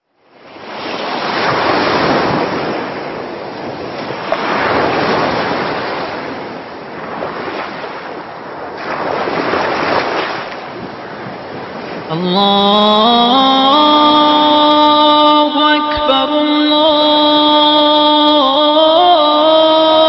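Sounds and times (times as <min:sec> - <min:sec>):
ocean waves washing ashore: 0:00.2 - 0:20.0.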